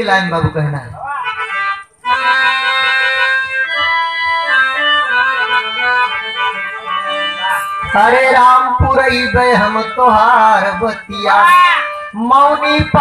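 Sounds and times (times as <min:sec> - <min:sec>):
harmonium playing: 0:00.0 - 0:13.0.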